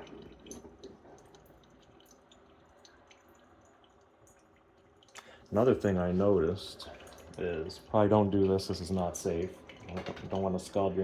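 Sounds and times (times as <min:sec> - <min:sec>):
coffee dripping into mug: 0:00.0 - 0:11.0.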